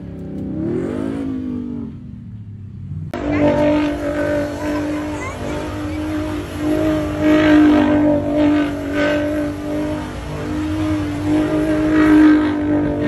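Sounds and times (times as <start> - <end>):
truck engine at high revs: 0.0 - 13.0.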